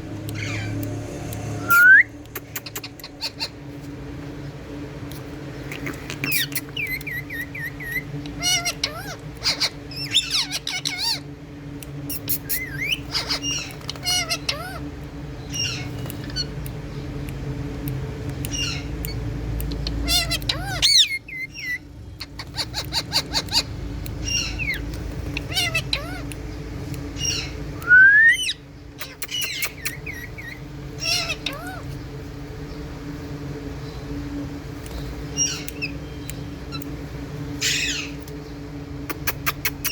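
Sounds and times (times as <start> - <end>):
parakeets chirping and squawking: 0.0 - 4.2, 5.5 - 17.2, 18.2 - 33.0, 33.8 - 39.9
steady low hum: 0.0 - 39.9.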